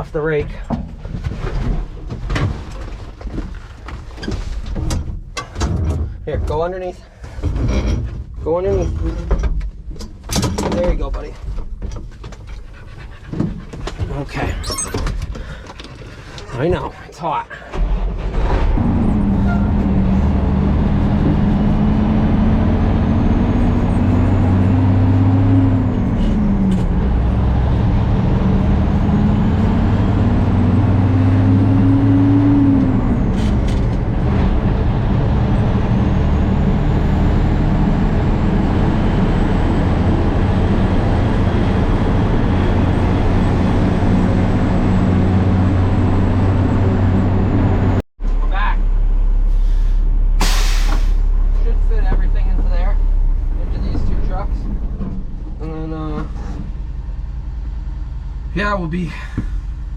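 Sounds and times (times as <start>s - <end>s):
truck engine shifting gears: 0.0s - 59.9s.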